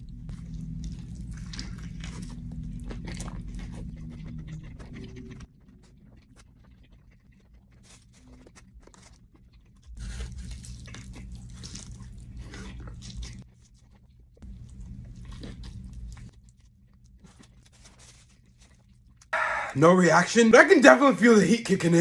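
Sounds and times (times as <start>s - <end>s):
person biting and chewing a sandwich: 0.0s - 19.6s.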